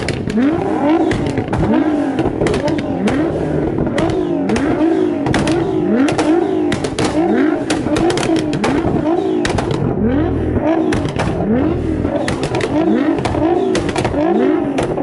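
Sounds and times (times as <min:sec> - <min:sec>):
car engine revving: 0:00.0 - 0:15.0
exhaust pops and crackles: 0:00.0 - 0:15.0.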